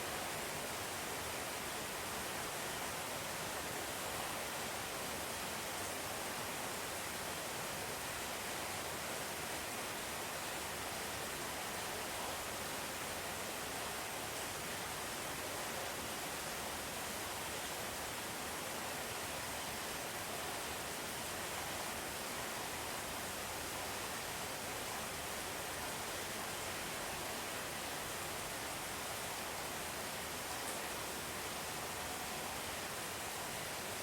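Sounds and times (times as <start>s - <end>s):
steady rain heard indoors: 0.0s - 34.0s.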